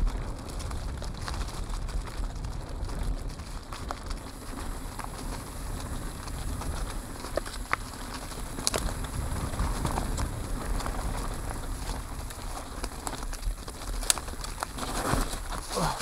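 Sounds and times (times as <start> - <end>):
bike clattering over bumps: 0.0 - 16.0
bike tyres crunching over dirt: 0.0 - 16.0.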